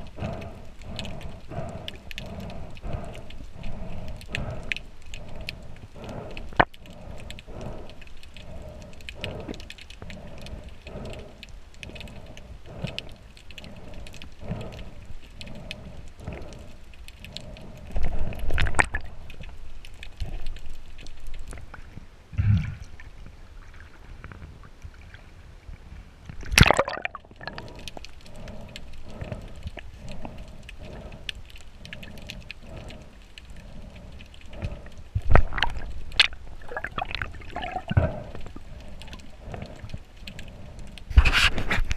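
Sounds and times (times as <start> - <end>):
rhythmic swimming swishes: 0.0 - 19.5, 26.6 - 41.2
underwater wash and gurgle: 0.0 - 41.9.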